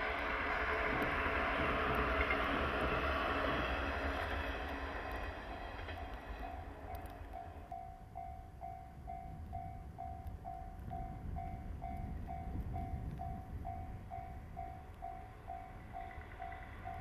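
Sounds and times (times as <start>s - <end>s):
electric train passing: 0.0s - 17.0s
low wind rumble: 0.0s - 17.0s.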